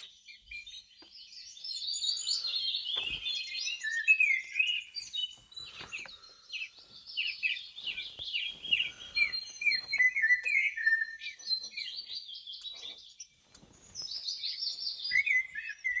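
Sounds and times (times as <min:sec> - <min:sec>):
birds singing chorus: 0:00.0 - 0:16.0.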